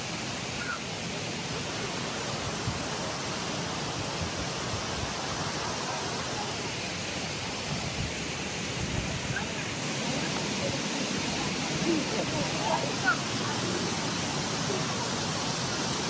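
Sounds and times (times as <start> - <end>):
waterfall and creek rushing: 0.0 - 16.0.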